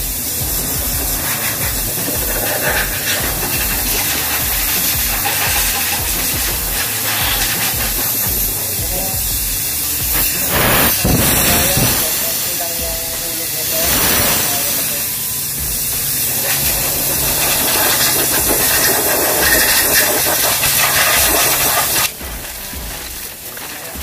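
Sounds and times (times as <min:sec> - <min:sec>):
pressure washer spraying water: 0:00.0 - 0:24.0.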